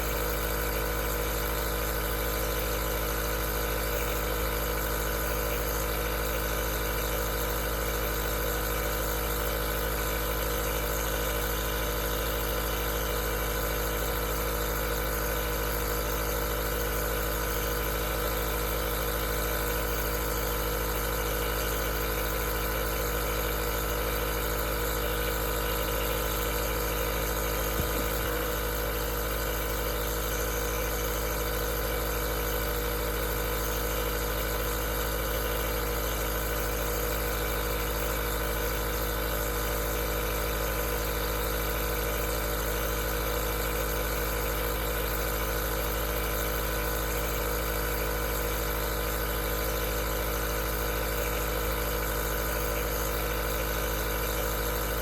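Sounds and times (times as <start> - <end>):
nebulizer compressor humming: 0.0 - 55.0.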